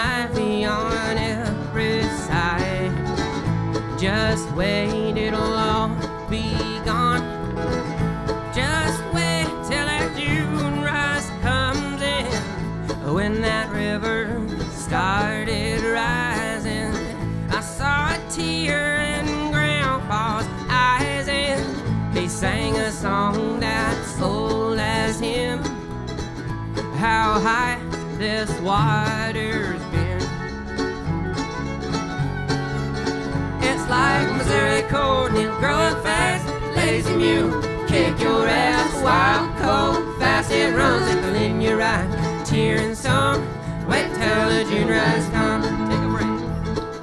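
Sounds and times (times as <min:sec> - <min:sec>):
band playing folk song: 0:00.0 - 0:47.0.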